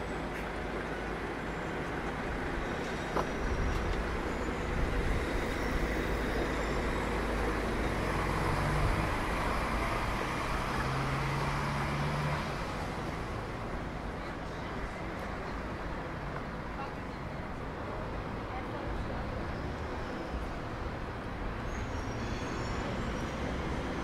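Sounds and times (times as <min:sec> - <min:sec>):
rumble of passing traffic: 0:00.0 - 0:24.0
vehicle engine hum: 0:00.0 - 0:24.0.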